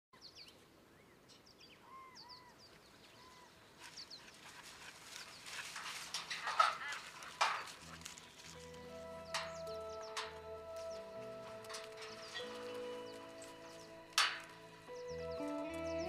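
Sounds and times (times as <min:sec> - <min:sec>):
birds chirping and calling: 0:00.2 - 0:16.0
rustling hiss: 0:02.8 - 0:16.0.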